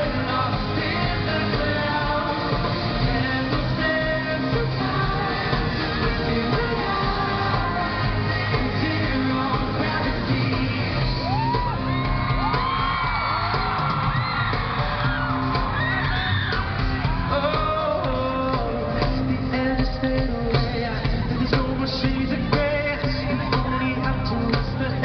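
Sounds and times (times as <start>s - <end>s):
audience screaming and cheering: 0.0s - 25.0s
live pop-rock band: 0.0s - 25.0s.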